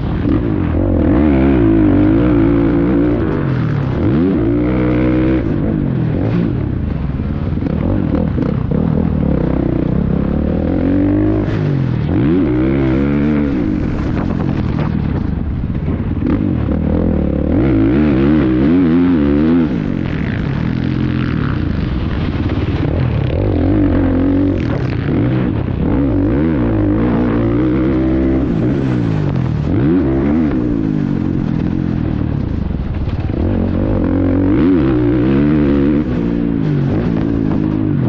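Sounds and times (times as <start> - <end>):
motocross bike engine revving: 0.0 - 15.2, 16.1 - 31.9, 33.2 - 38.0.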